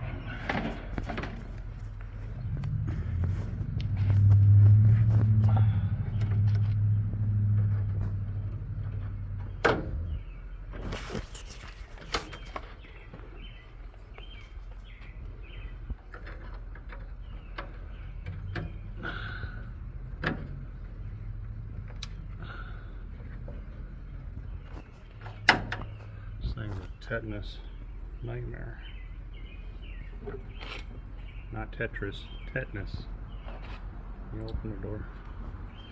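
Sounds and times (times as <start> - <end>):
low motor vehicle hum: 0.0 - 35.9.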